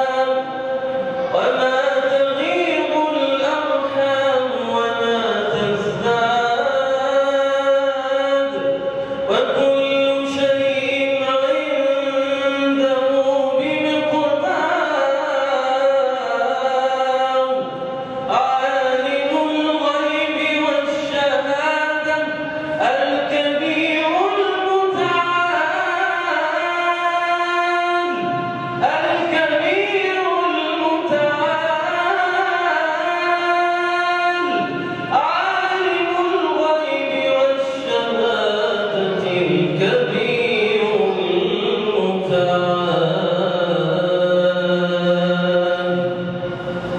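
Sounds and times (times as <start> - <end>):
man chanting recitation: 0.0 - 46.9.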